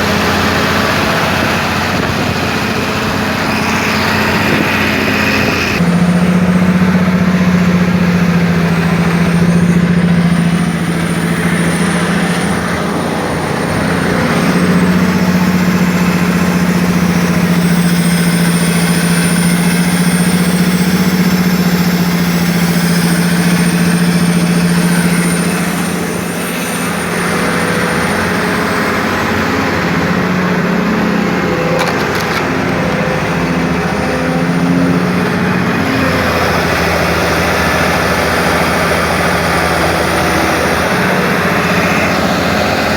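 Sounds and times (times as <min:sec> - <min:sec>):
excavator engine knocking: 0:00.0 - 0:42.9.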